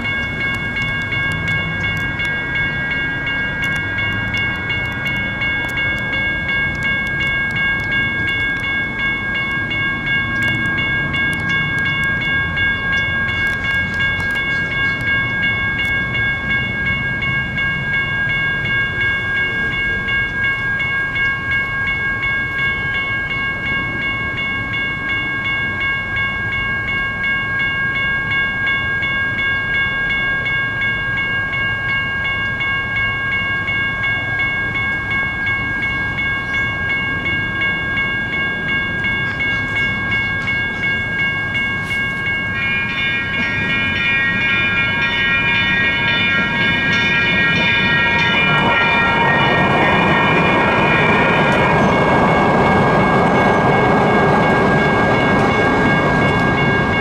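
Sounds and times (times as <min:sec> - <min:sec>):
electronic crossing bells ringing: 0:00.0 - 0:57.0
light rail train rumble: 0:00.0 - 0:57.0.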